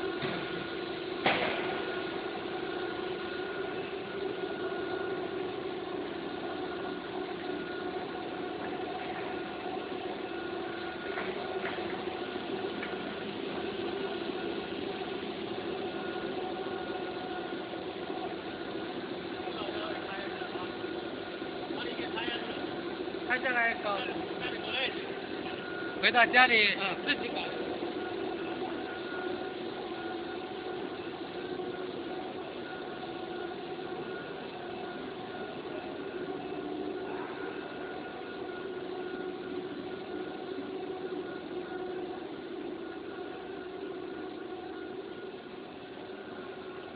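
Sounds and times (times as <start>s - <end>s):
extrusion machine humming: 0.0s - 46.9s.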